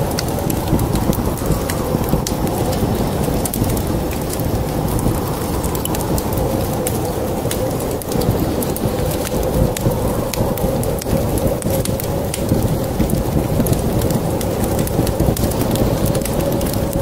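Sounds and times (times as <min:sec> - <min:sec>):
rain rumbling: 0:00.0 - 0:17.0
wood fire crackling: 0:00.0 - 0:17.0.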